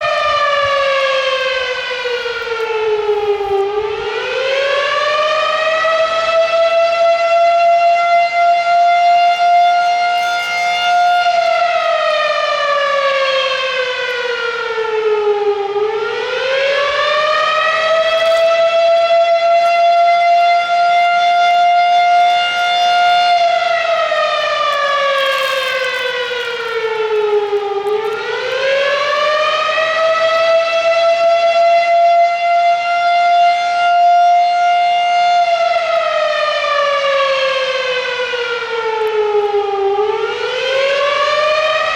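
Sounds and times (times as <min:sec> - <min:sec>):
fire siren wailing: 0:00.0 - 0:41.9.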